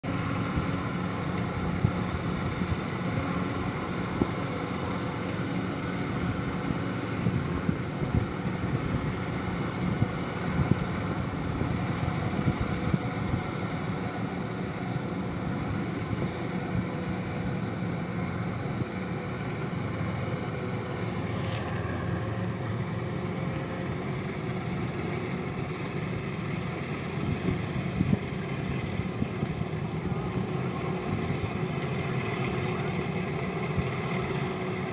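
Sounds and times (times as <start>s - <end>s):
engine running: 0.0s - 34.9s.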